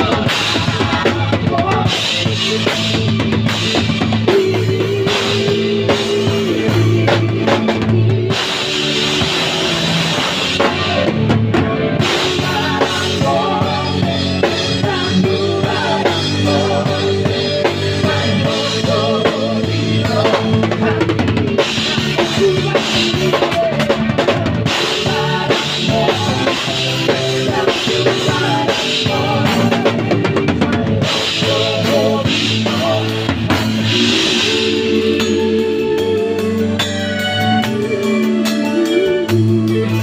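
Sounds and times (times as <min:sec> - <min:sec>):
drum kit playing: 0:00.0 - 0:40.0
keyboard: 0:00.0 - 0:40.0
live band music: 0:00.0 - 0:40.0.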